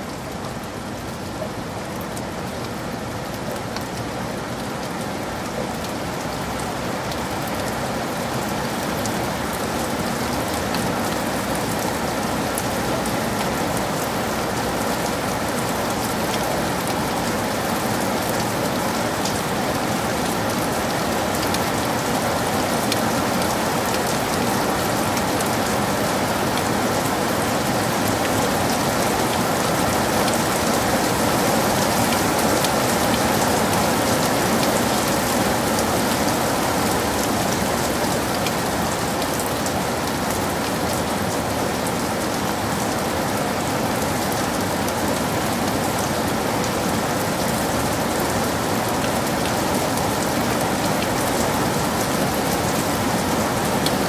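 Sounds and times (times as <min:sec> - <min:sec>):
heavy rain on a forest: 0:00.0 - 0:54.0.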